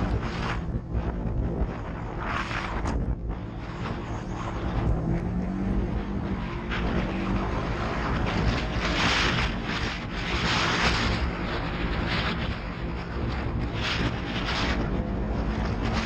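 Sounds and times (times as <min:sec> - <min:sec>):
off-road vehicle engine: 0:00.0 - 0:16.0
wind buffeting microphone: 0:00.0 - 0:16.0.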